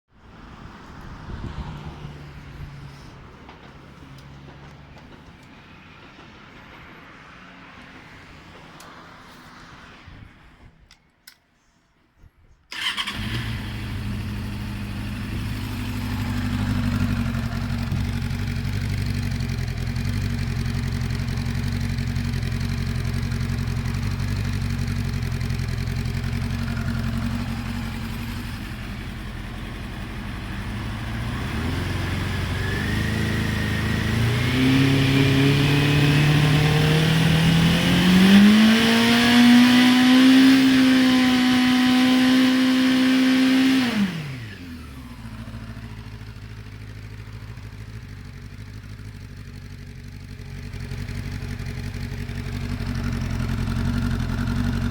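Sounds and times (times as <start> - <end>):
motorcycle engine idling and revving: 0.6 - 10.3, 12.7 - 54.9.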